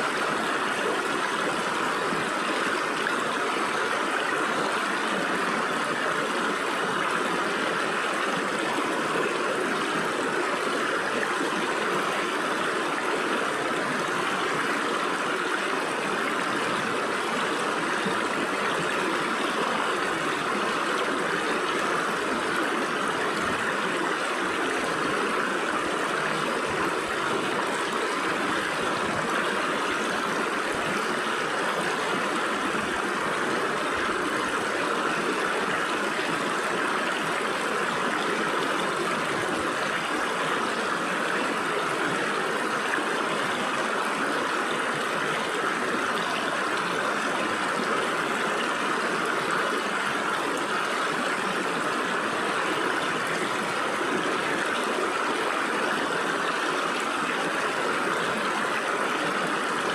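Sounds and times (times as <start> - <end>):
stream water gurgling over rocks: 0.0 - 59.9.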